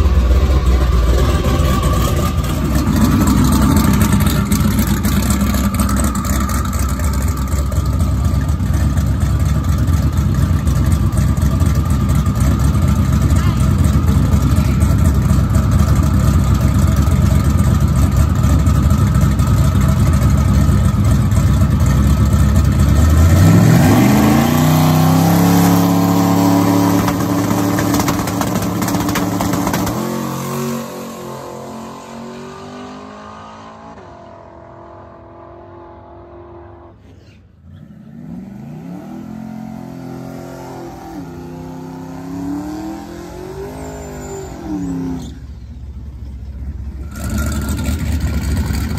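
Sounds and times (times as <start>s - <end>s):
truck engine revving: 0.0s - 20.0s, 20.7s - 45.6s, 47.0s - 48.9s.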